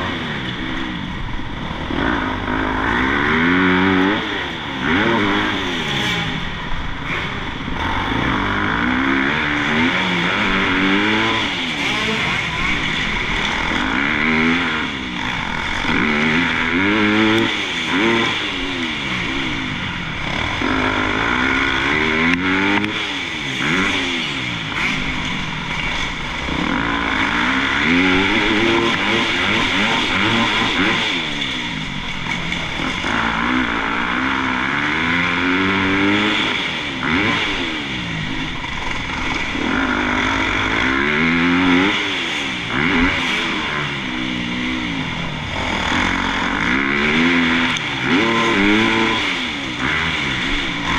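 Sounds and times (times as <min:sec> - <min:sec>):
motocross bike engine revving: 0:00.0 - 0:50.9.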